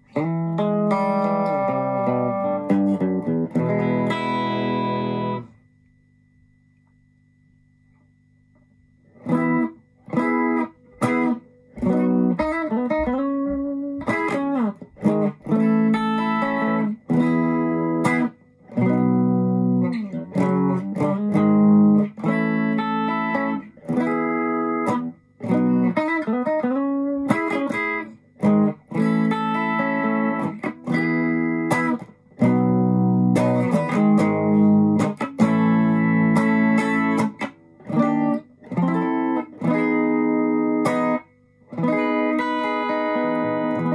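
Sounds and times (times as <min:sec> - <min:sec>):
electric guitar chords: 0:00.0 - 0:06.5, 0:08.0 - 0:43.9.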